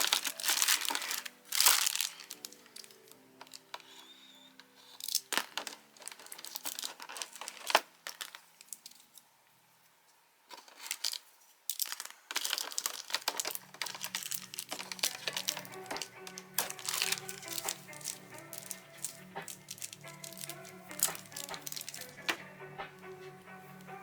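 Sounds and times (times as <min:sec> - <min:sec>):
packaging crinkling and tearing: 0:00.0 - 0:04.2, 0:04.8 - 0:09.1, 0:10.5 - 0:23.3.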